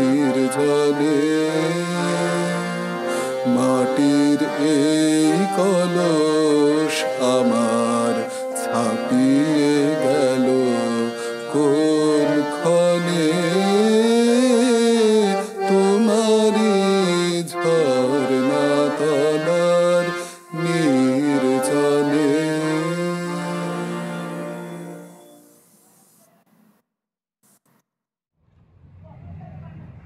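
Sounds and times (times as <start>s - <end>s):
man singing: 0.0s - 24.2s
harmonium chords: 0.0s - 25.7s.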